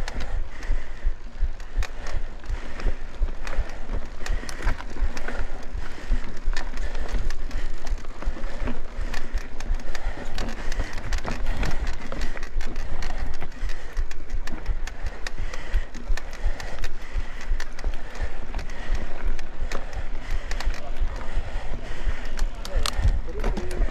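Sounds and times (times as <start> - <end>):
bike rattling over bumps: 0.0 - 23.9
tyres on loose dirt: 0.0 - 23.9
wind rumble on microphone: 0.0 - 23.9.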